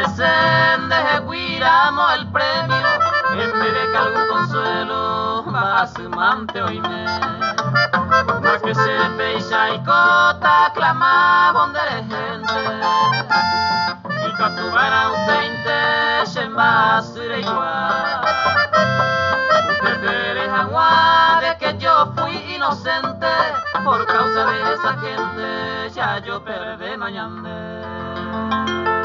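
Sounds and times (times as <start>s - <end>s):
accordion melody: 0.0s - 26.2s, 27.8s - 29.0s
bass: 0.0s - 29.0s.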